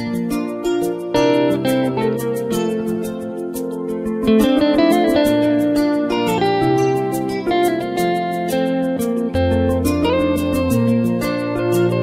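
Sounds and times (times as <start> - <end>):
guitar: 0.0 - 12.0
sustained keyboard chords: 0.0 - 12.0.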